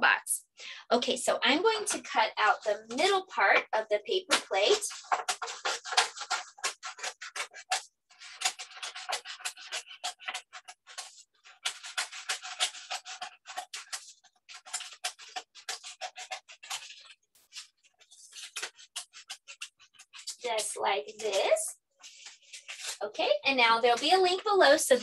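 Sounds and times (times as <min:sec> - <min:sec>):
scissors snipping paper plate: 0:01.4 - 0:21.6.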